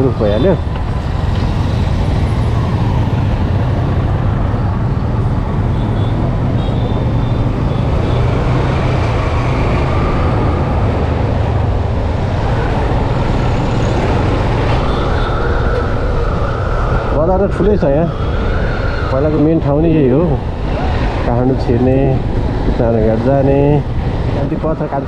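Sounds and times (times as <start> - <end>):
road traffic noise: 0.0 - 25.0
wind rush on microphone: 0.0 - 25.0.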